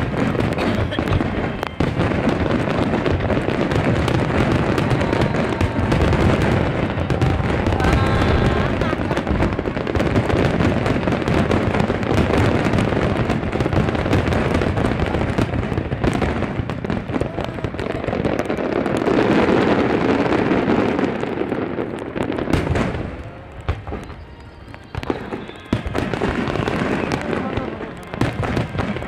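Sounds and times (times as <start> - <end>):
fireworks booming and crackling: 0.0 - 29.0.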